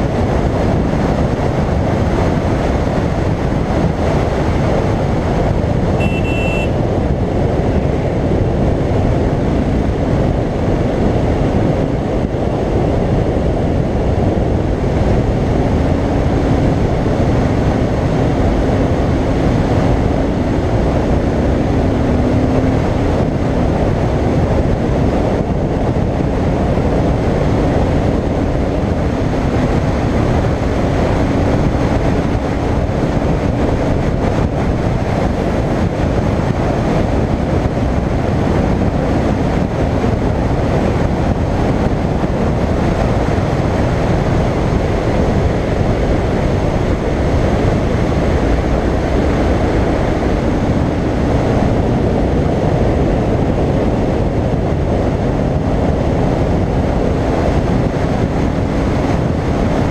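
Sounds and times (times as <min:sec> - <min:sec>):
motorcycle engine cruising: 0:00.0 - 0:59.9
wind rushing over microphone: 0:00.0 - 0:59.9.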